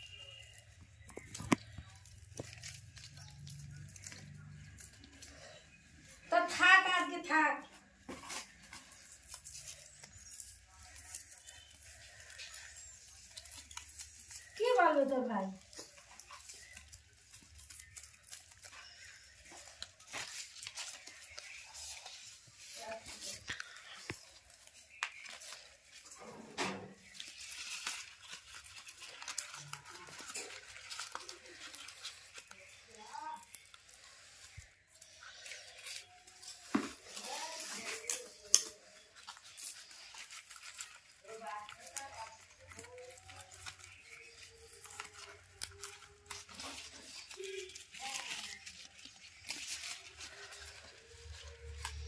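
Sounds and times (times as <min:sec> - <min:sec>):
plastic packing rustling: 0:00.0 - 0:52.0
plastic wrapping crinkling: 0:00.0 - 0:52.0.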